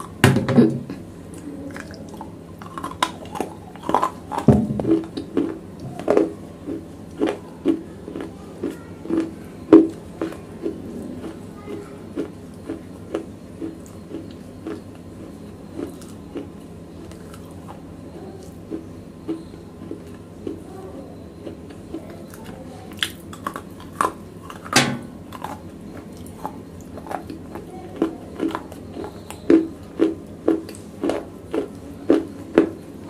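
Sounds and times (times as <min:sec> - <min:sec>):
chewing and crunching slate: 0:01.7 - 0:20.7, 0:21.4 - 0:32.8.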